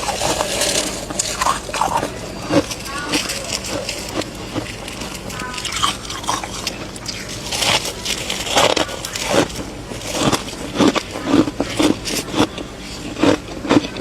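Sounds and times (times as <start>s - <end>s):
person chewing freezer frost: 0.0s - 14.0s.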